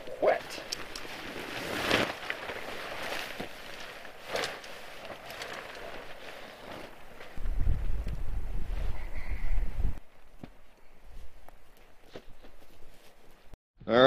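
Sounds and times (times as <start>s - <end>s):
camping gear rustling: 0.0s - 13.6s.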